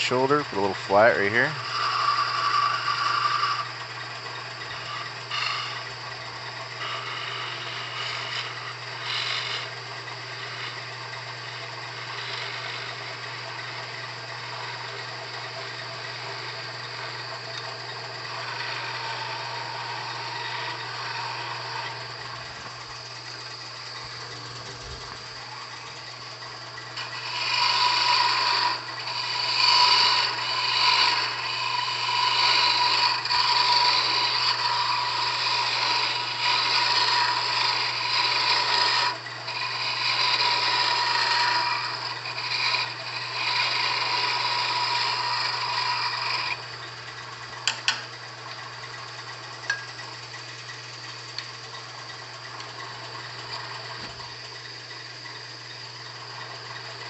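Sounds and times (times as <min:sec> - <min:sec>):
turning tool cutting wood: 0:00.0 - 0:57.0
wood lathe motor hum: 0:00.0 - 0:57.0.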